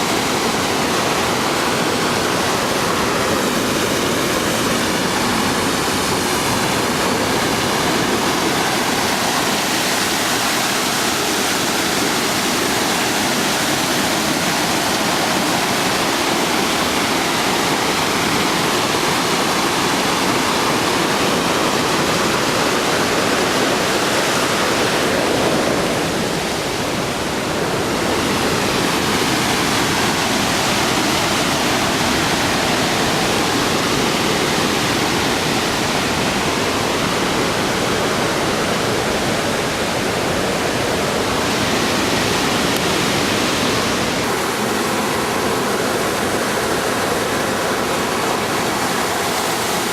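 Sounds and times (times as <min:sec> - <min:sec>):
roar of rushing water: 0:00.0 - 0:49.9.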